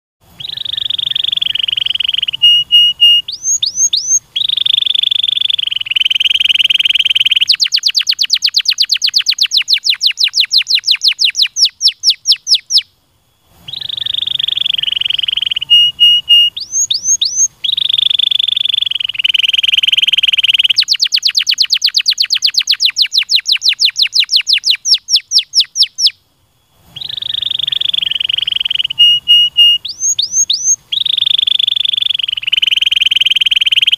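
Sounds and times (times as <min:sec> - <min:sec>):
canary singing: 0:00.3 - 0:12.9, 0:13.6 - 0:26.2, 0:26.8 - 0:33.9.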